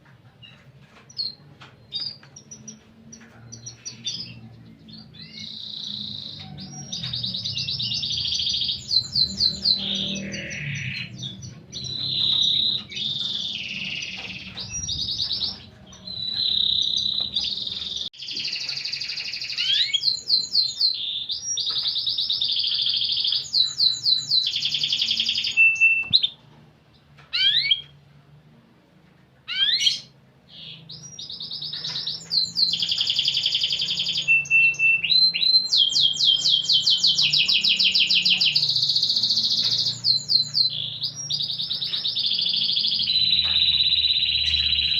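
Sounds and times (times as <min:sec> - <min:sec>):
canary singing trills: 0:00.4 - 0:26.4, 0:27.3 - 0:28.0, 0:29.5 - 0:44.9.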